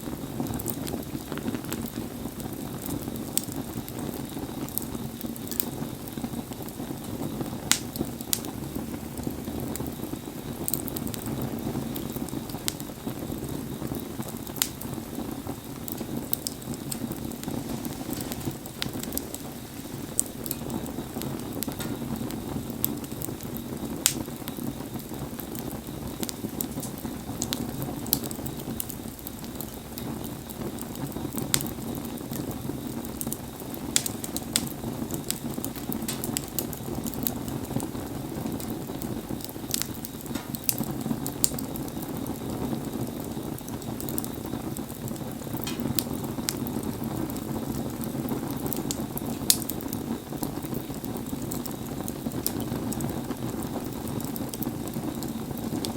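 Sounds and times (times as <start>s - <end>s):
campfire crackling and popping: 0.0s - 55.9s
rain hissing: 0.0s - 55.9s.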